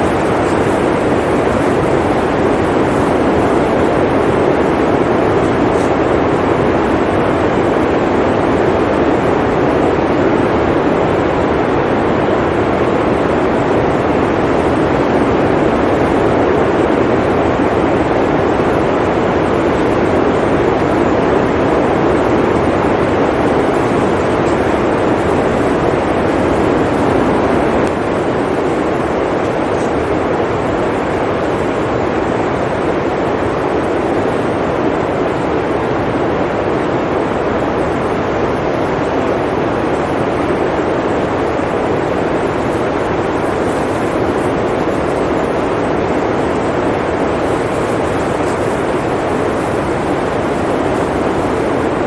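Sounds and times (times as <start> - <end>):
blizzard wind roaring: 0.0 - 52.0.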